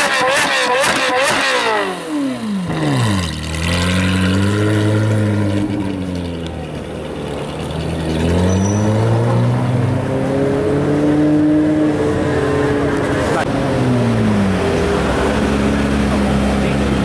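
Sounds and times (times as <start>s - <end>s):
sports car engine at low revs: 0.0s - 17.0s.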